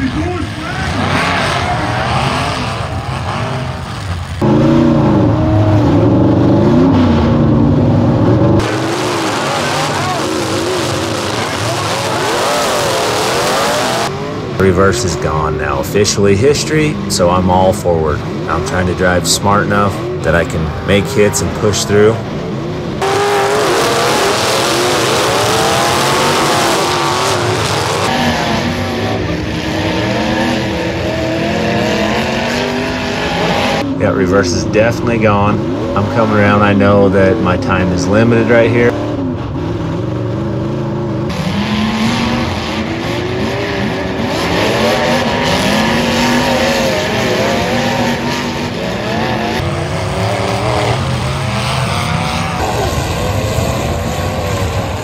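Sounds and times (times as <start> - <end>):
car engines revving: 0.0 - 55.0
car engine revving inside cab: 4.4 - 15.8, 16.8 - 55.0.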